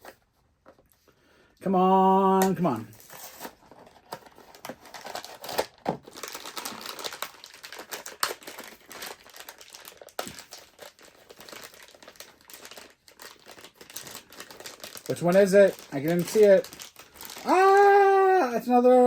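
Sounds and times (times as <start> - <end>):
packaging crinkling and rustling: 2.4 - 18.2.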